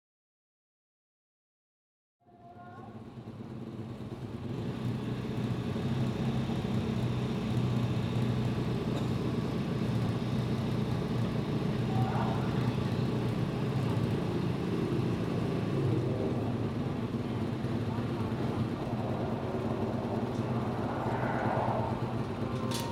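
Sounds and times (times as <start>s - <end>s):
racing motorcycle engine drone: 2.9s - 22.9s.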